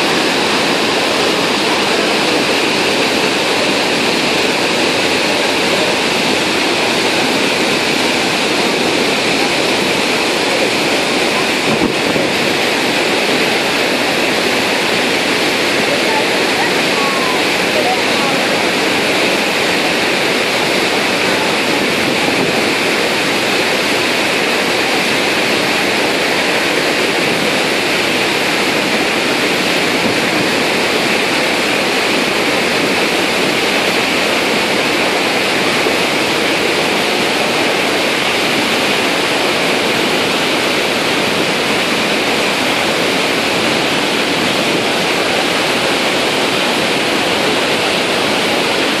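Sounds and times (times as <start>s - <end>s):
waterfall rushing: 0.0s - 49.0s
white-water river churning: 0.0s - 49.0s.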